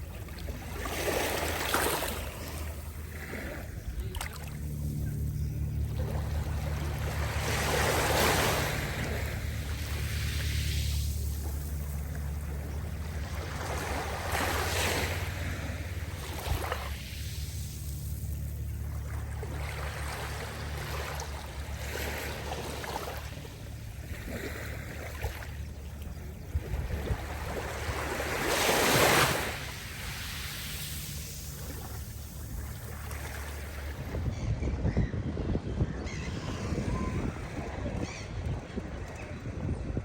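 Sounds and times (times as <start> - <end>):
sea waves breaking: 0.0 - 34.2
steady low hum: 0.0 - 40.0.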